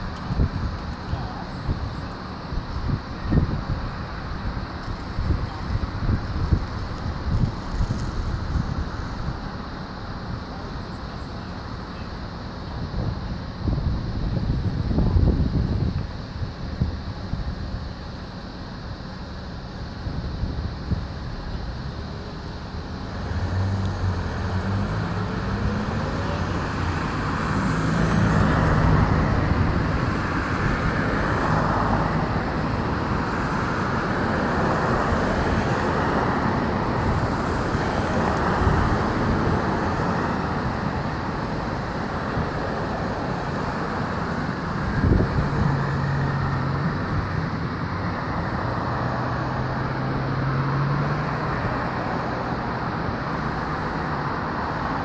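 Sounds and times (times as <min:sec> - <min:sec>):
cars passing: 0:00.0 - 0:16.4, 0:20.1 - 0:55.0
low hum of engines: 0:00.0 - 0:55.0.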